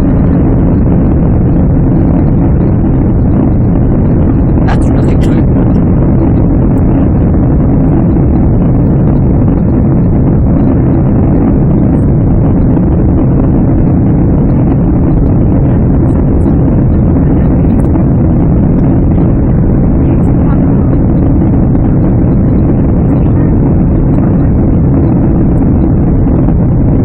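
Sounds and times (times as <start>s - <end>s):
jet engine and airflow in cabin: 0.0s - 27.0s.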